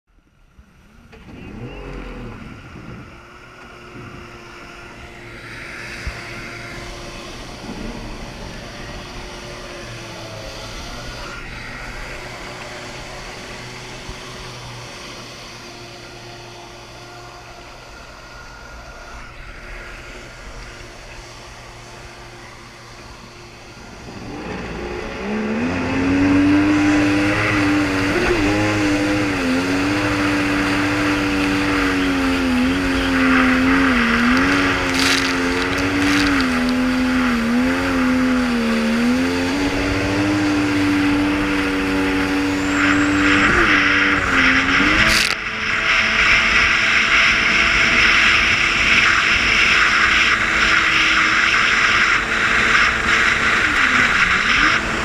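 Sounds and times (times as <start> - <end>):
jet ski engine droning: 0.1 - 55.0.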